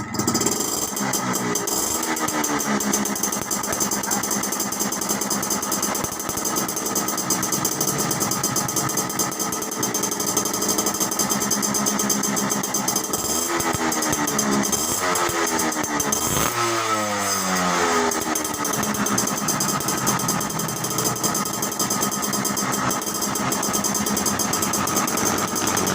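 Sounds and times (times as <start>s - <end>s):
two-stroke motorcycle engine idling: 0.0s - 25.9s.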